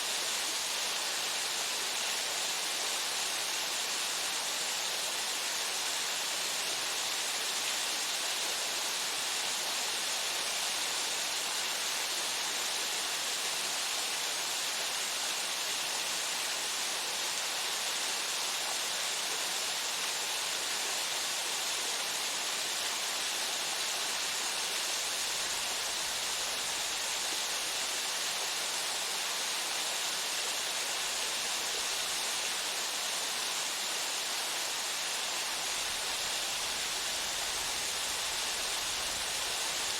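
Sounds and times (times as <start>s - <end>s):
waterfall pouring into pool: 0.0s - 39.9s.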